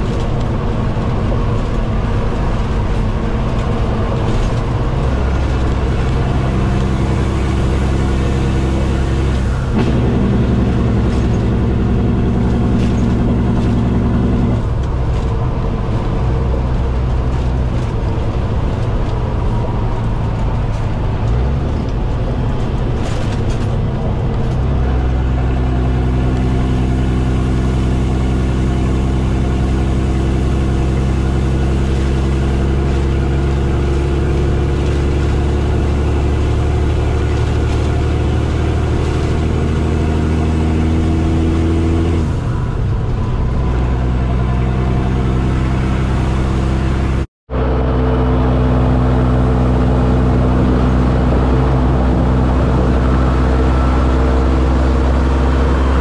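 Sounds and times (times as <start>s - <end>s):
diesel engine droning in cab: 0.0s - 56.0s.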